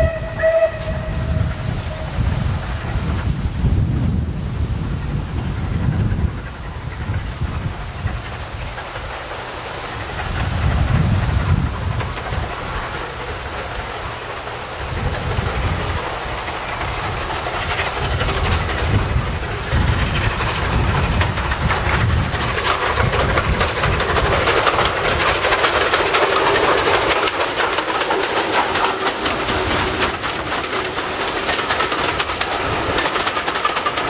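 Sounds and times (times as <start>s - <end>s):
steam locomotive hissing: 0.0s - 34.0s
train wheels clickety-clack: 0.0s - 34.0s.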